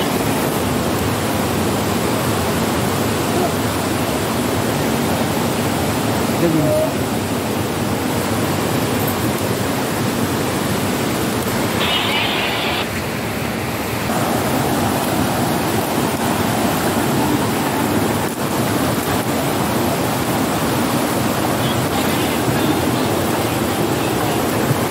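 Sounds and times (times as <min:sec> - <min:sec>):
rocky mountain stream rushing: 0:00.0 - 0:24.9.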